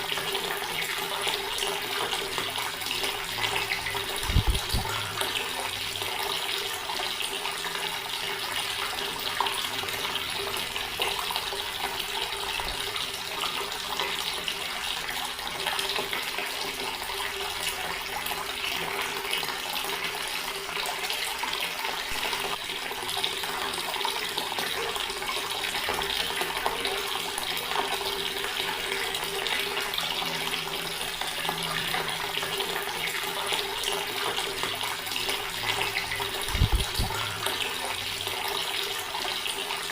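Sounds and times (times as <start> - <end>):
tap water splashing into basin: 0.0 - 39.9.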